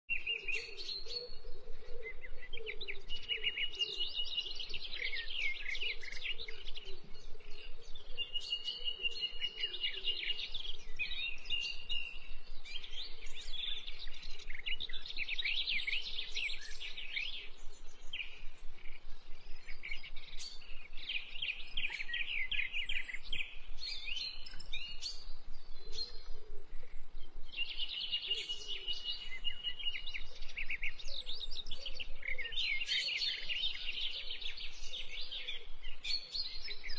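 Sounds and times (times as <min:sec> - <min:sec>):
birds chirping: 0:00.1 - 0:36.9.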